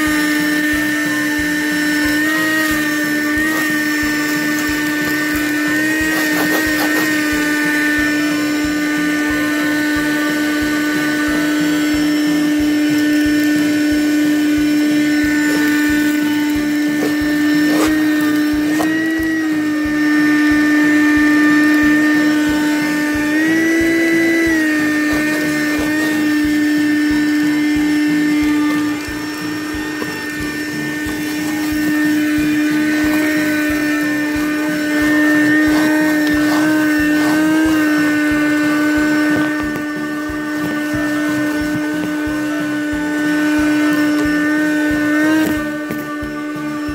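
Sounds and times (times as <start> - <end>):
handheld vacuum motor whine: 0.0 - 46.9.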